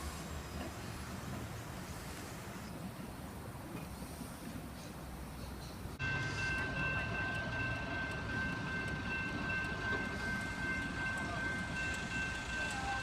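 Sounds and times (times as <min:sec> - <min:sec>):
rail vehicle rumble: 0:00.0 - 0:13.0.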